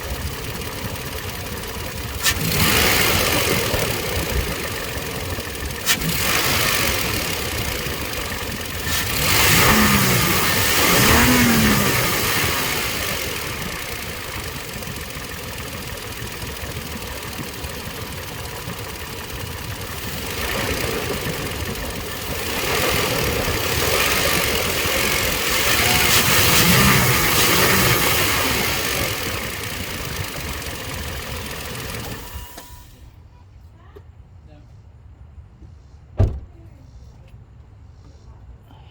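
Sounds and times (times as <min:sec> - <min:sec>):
engine idling and revving: 0:00.0 - 0:33.1.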